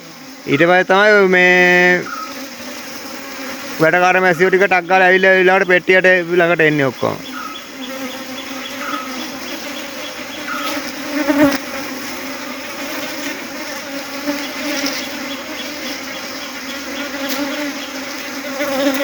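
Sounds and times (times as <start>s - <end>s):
bee swarm buzzing: 0.0s - 19.0s.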